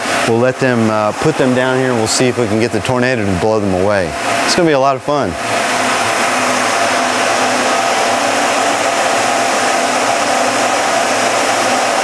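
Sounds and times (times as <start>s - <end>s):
rush of fan noise: 0.0s - 12.0s.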